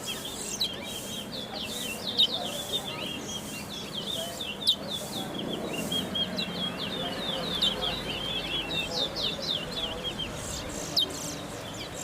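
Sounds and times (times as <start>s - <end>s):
finch singing chattering song: 0.0s - 12.0s.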